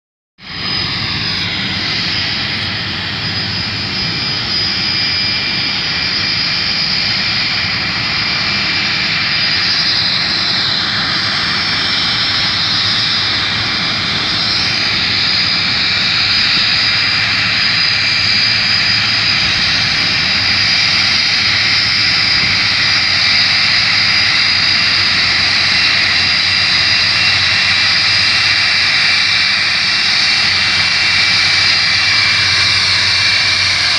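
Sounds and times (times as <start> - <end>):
jet engines whining and rumbling: 0.4 - 33.9.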